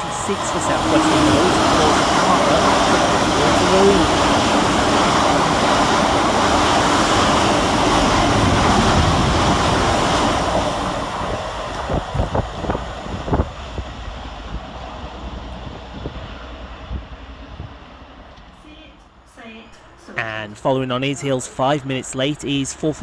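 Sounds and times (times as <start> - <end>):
sharp clicks of train: 0.0 - 23.0
train passing fast: 0.0 - 23.0.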